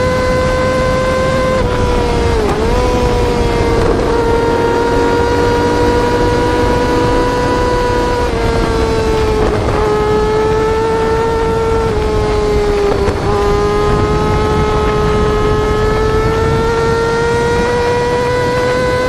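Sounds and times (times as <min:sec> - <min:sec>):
motorcycle engine high pitch: 0:00.0 - 0:19.0.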